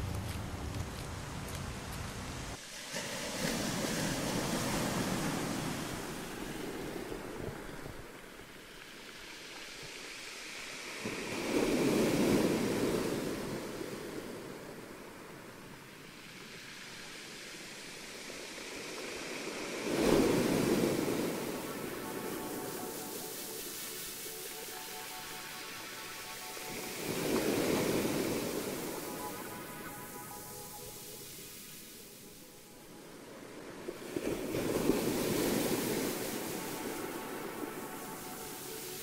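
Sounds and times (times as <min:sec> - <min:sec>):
ocean waves washing in: 0:02.1 - 0:39.0.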